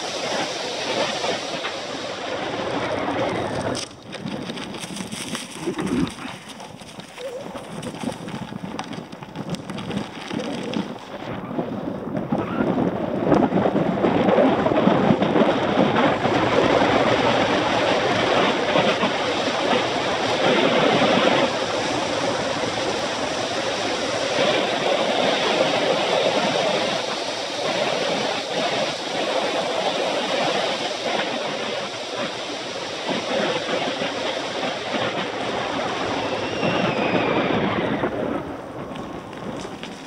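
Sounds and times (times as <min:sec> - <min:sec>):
tyres rolling on road: 0:00.0 - 0:29.6, 0:37.4 - 0:40.0
wind rushing over microphone: 0:00.0 - 0:40.0.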